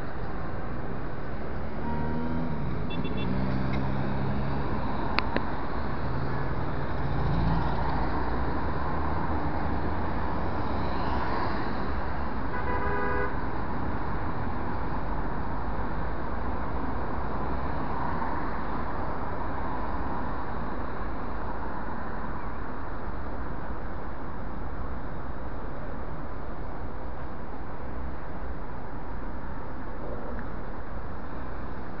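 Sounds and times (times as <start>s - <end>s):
city traffic: 0.0s - 32.0s.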